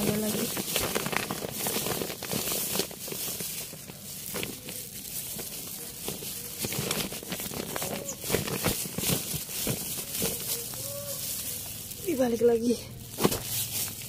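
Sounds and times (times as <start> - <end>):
roots tearing and crackling: 0.0 - 14.0
soil crumbling: 0.0 - 14.0.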